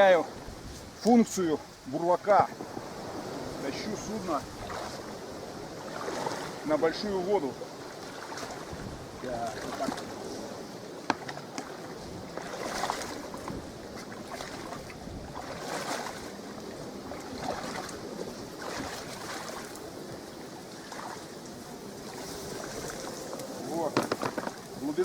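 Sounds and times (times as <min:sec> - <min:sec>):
person wading through water: 0:02.6 - 0:25.0.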